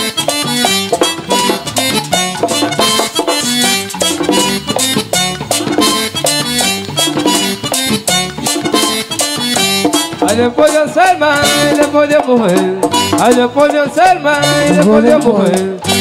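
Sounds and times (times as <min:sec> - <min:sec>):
button accordion melody: 0:00.0 - 0:16.0
electric bass line: 0:00.0 - 0:16.0
fast drum beat: 0:00.2 - 0:16.0.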